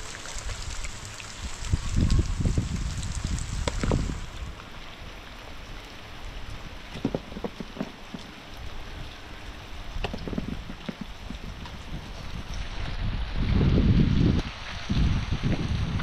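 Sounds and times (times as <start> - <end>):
steady rain: 0.0 - 16.0
wind rumbling on microphone: 0.0 - 16.0.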